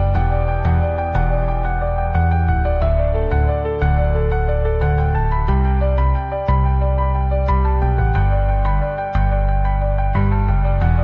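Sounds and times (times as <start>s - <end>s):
gentle melody with steady beat: 0.0s - 11.0s.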